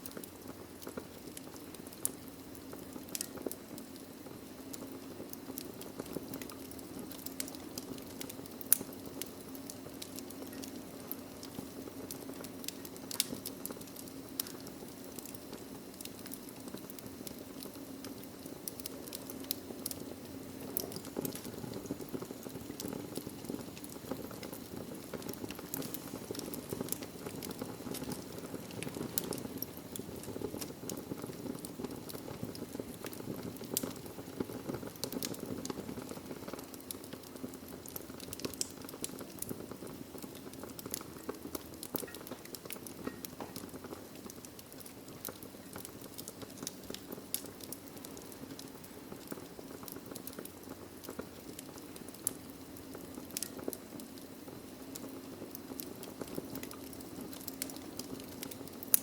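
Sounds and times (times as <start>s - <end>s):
fire crackles and pops: 0.0s - 59.0s
logs burning in a fireplace: 0.0s - 59.0s.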